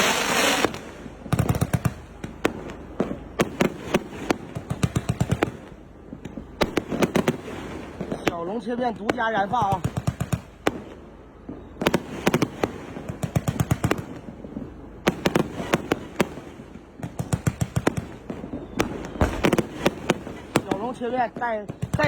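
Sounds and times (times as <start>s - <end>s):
fireworks cake firing volleys: 0.0s - 22.0s.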